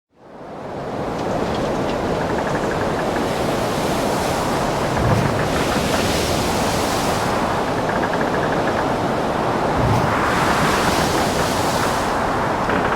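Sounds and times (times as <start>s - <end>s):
steady wind: 0.1s - 12.9s
heavy waves surging: 0.4s - 12.9s.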